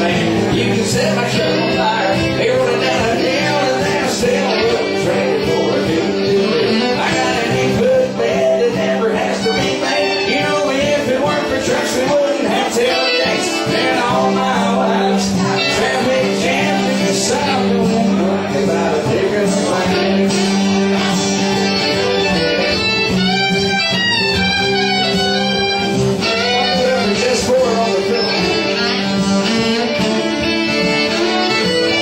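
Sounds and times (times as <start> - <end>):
person singing: 0.0 - 23.3, 25.0 - 32.0
acoustic guitar strumming: 0.0 - 32.0
drums: 0.0 - 32.0.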